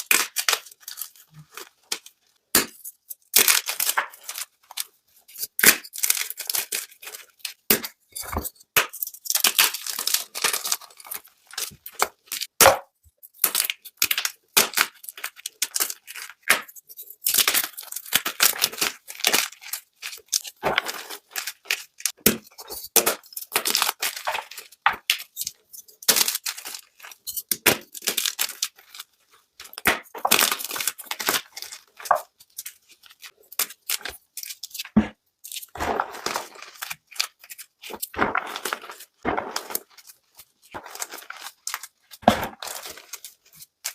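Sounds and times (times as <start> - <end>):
chalk blocks crunching: 0.0 - 43.9.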